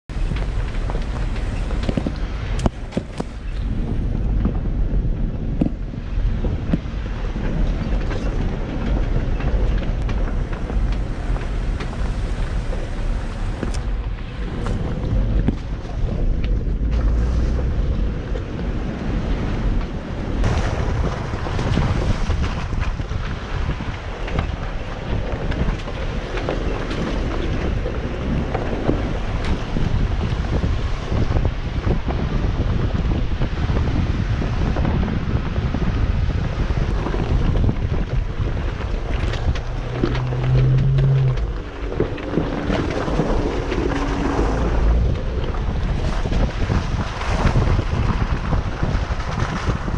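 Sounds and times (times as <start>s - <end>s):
engine and drivetrain rumble: 0.0s - 49.9s
wind buffeting microphone: 0.0s - 49.9s
rocks knocking underneath: 0.1s - 32.0s, 36.2s - 49.9s.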